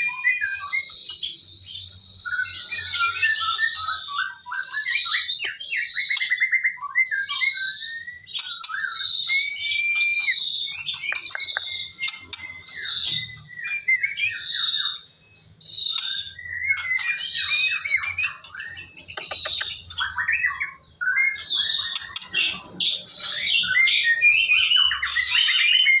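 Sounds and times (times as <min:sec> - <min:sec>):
songbird singing trills: 0:00.0 - 0:26.0.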